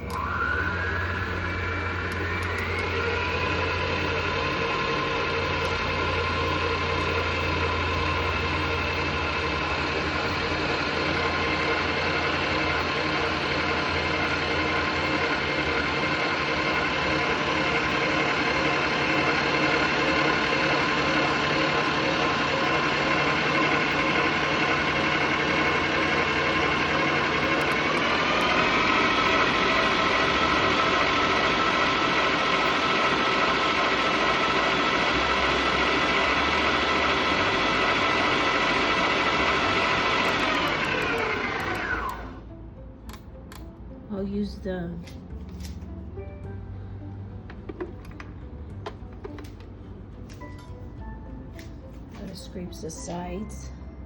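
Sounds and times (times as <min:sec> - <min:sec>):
stand mixer motor whining: 0:00.0 - 0:42.5, 0:47.5 - 0:50.7.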